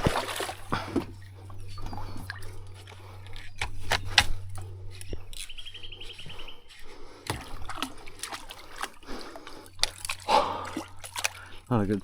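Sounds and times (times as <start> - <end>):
water splashing against kayak: 0.0 - 5.5, 6.3 - 12.0.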